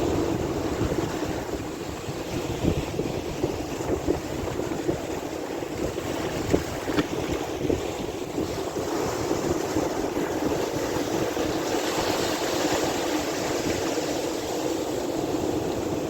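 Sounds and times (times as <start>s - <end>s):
sea water rushing: 0.0s - 16.0s
wind buffeting the microphone: 0.0s - 16.0s.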